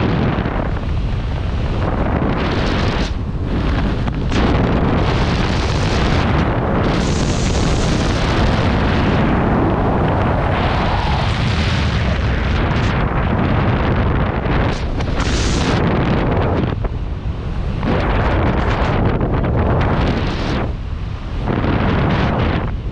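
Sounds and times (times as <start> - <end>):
wind roaring over microphone: 0.0 - 22.9.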